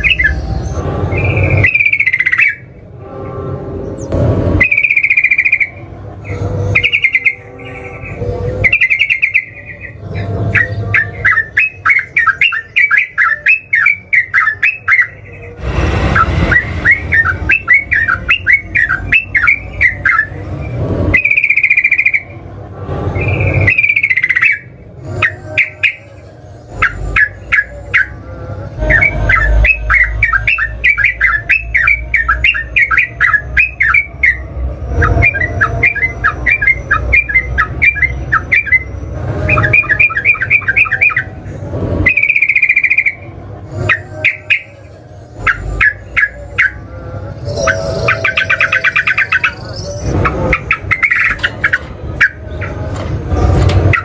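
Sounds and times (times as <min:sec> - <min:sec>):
bird chattering song: 0:00.0 - 0:02.7, 0:03.9 - 0:15.6, 0:16.2 - 0:22.3, 0:23.2 - 0:28.2, 0:28.8 - 0:41.4, 0:42.0 - 0:43.2, 0:45.4 - 0:52.8.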